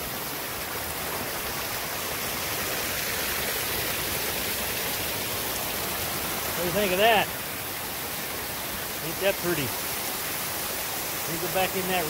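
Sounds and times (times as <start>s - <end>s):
creek rushing over stones: 0.0s - 12.0s.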